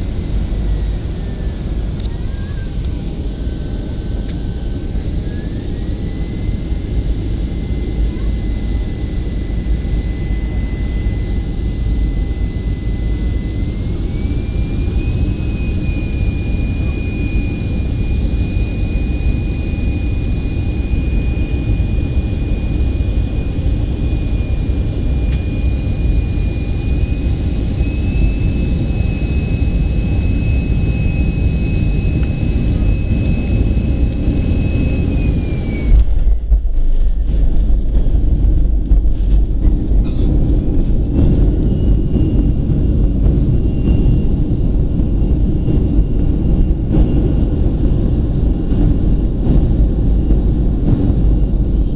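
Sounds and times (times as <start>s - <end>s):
aircraft cabin engine rumble: 0.0s - 51.9s
jet engine whine: 0.0s - 51.9s.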